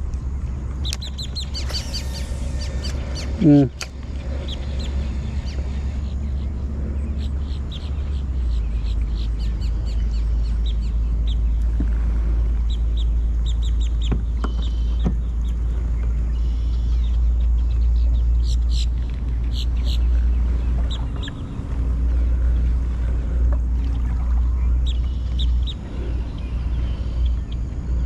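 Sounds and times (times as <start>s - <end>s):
low rumble: 0.0s - 28.0s
birds chirping: 0.2s - 28.0s.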